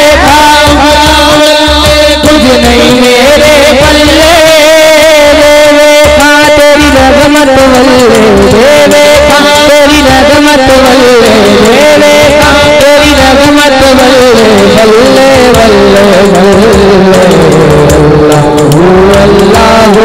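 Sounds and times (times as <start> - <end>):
man singing through loud pa: 0.0 - 20.0.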